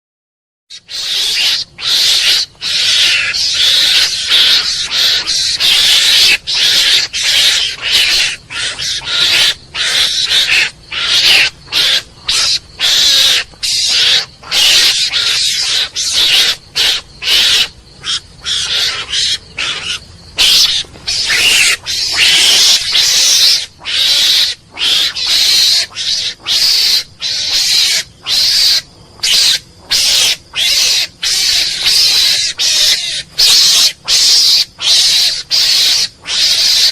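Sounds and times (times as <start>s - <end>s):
mongoose hissy calls: 0.7s - 36.9s.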